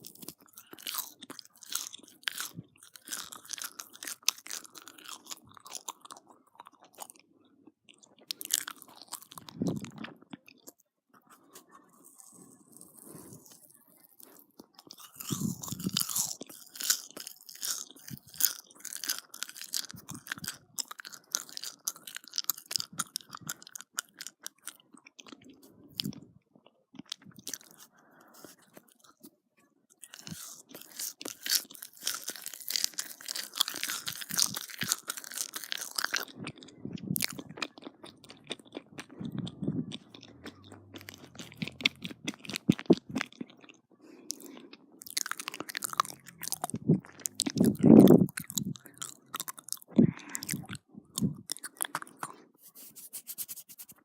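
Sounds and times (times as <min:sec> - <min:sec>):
chewing marshmallows: 0:00.0 - 0:52.9.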